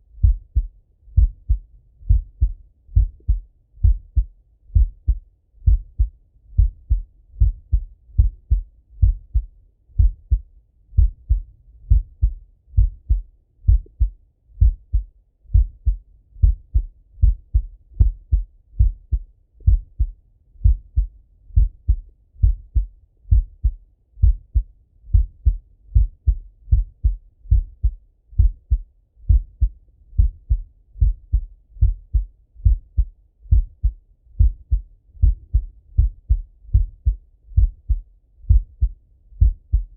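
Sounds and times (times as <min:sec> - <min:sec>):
heartbeat through stethoscope: 0:00.1 - 0:39.9.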